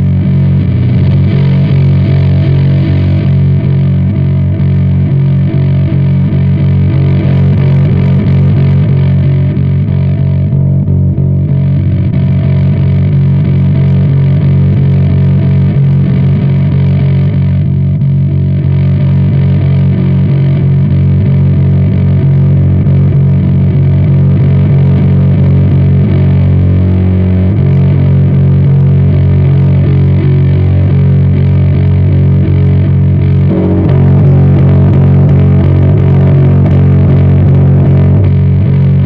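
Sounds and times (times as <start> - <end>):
distorted electric bass drone: 0.0 - 39.0.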